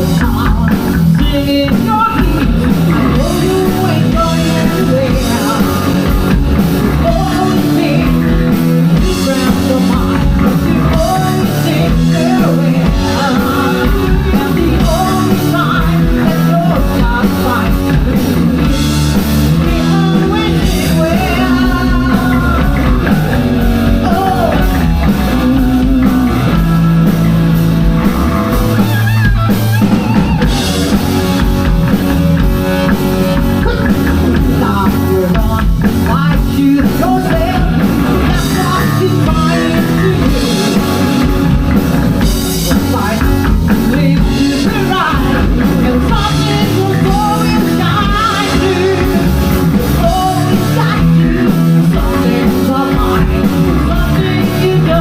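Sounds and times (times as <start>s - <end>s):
person singing: 0.0s - 27.2s, 28.7s - 55.0s
bass guitar: 0.0s - 55.0s
drum kit: 0.0s - 55.0s
electric guitar: 0.0s - 55.0s.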